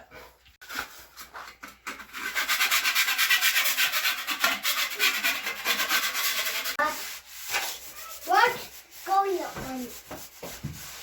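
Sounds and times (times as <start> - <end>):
rubbing and scraping strokes: 0.6 - 11.0.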